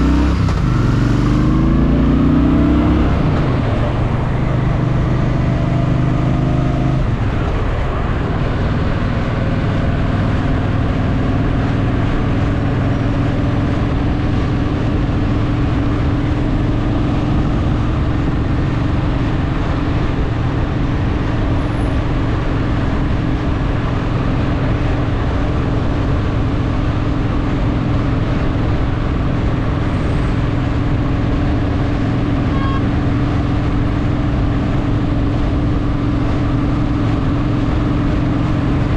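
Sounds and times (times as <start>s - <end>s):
motorcycle engine: 0.0s - 38.9s
wind and road rush: 0.0s - 38.9s.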